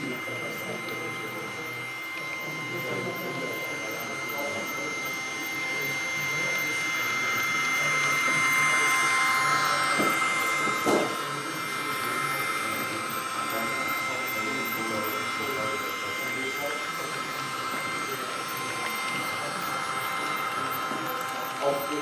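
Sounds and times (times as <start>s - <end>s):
model train motor whine: 0.0s - 22.0s.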